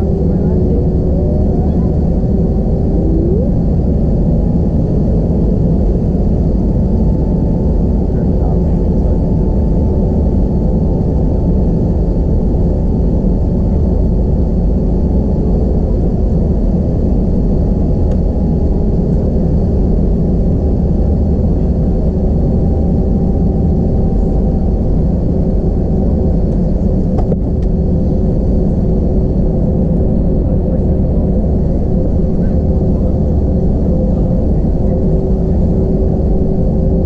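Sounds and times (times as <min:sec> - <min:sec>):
jet engines rumbling with whine: 0:00.0 - 0:37.0.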